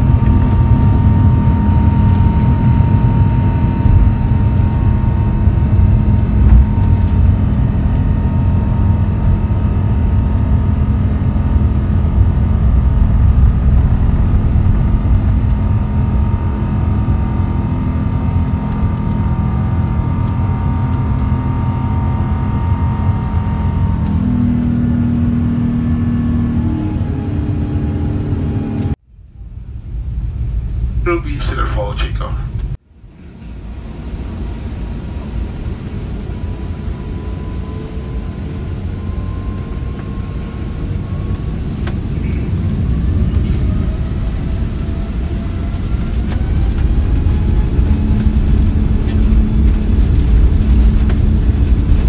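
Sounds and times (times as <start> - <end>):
high engine tone: 0.0 - 30.0, 31.0 - 32.8, 33.8 - 52.0
jet engines rumbling in cabin: 0.0 - 52.0.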